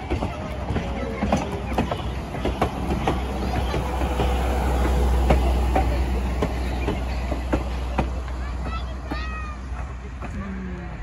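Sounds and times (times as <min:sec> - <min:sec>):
low train rumble: 0:00.0 - 0:11.0
train wheels clicking over rail joints: 0:00.0 - 0:11.0.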